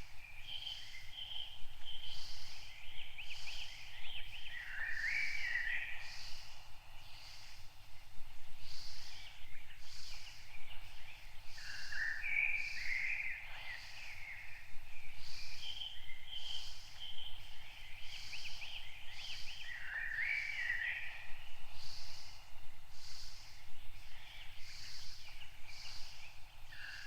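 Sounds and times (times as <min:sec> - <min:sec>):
birds chirping and warbling: 0:00.0 - 0:27.0.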